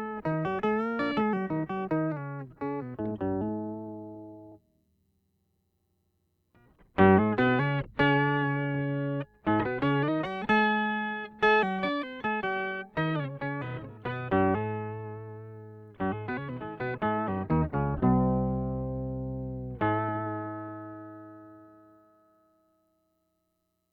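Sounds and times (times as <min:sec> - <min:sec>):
electric guitar plucked notes: 0:00.0 - 0:04.6, 0:06.8 - 0:22.1.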